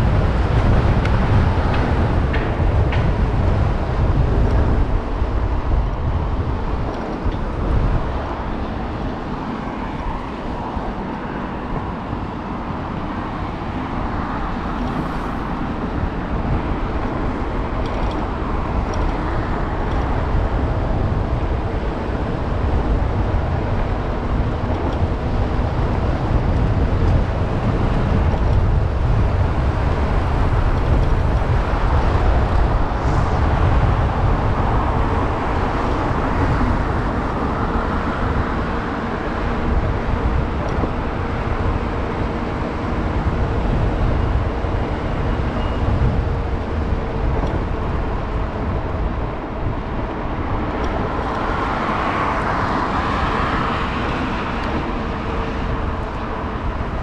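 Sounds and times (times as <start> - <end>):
bicycle tyre and road noise: 0.0 - 57.0
wind rushing over microphone: 0.0 - 57.0.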